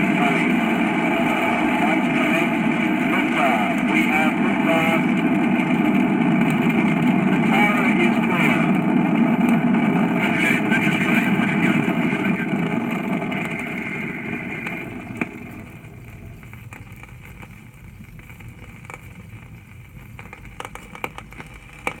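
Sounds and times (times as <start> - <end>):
record clicks and pops: 0.0 - 22.0
record surface hiss: 0.0 - 22.0
rocket launch roar: 0.0 - 22.0.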